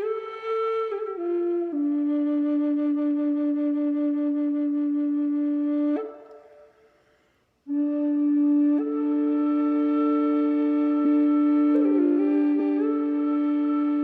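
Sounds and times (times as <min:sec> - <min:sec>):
drone flute playing: 0:00.0 - 0:06.8, 0:07.7 - 0:14.0.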